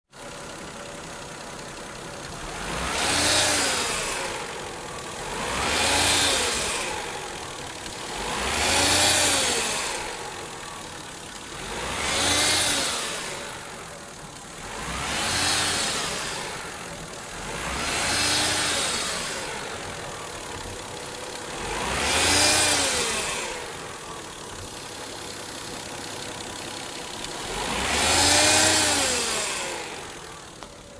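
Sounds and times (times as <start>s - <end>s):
car engine revving: 0.2s - 30.9s.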